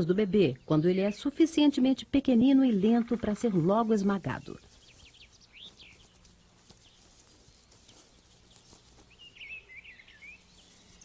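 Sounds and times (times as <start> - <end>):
songbird chirps: 0.0 - 11.0.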